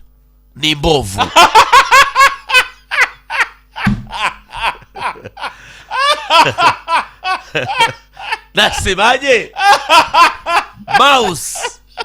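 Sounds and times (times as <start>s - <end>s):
people laughing: 1.2s - 12.0s.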